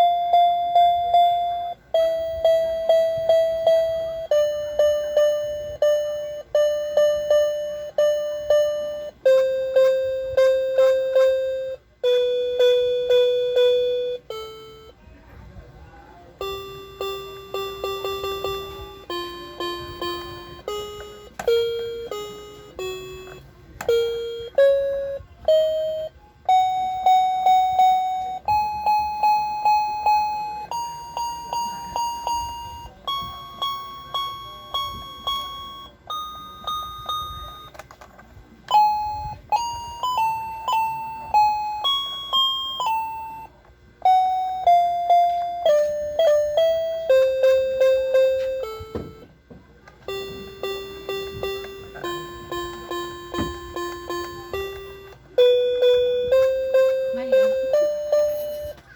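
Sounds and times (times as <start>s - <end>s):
electronic toy beeping melody: 0.0s - 15.0s, 16.4s - 37.9s, 38.6s - 49.4s, 50.0s - 58.9s.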